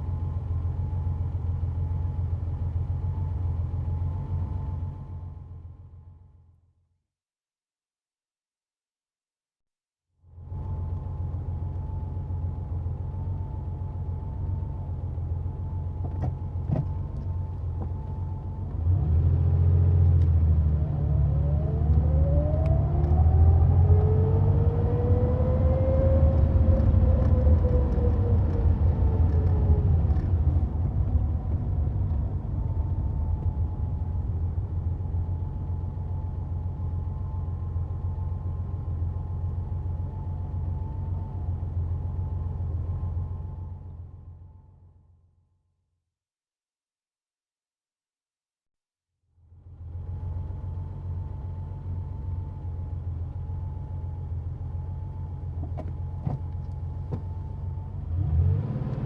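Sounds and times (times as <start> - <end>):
car engine idling and revving: 0.0 - 6.6, 10.2 - 45.3, 49.4 - 59.0.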